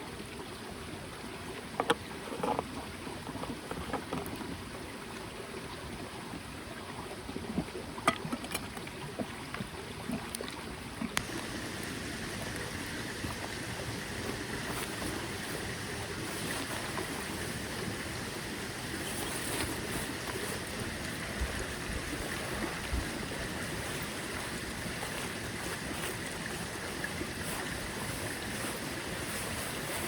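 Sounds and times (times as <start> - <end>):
mountain stream running: 0.0 - 30.0.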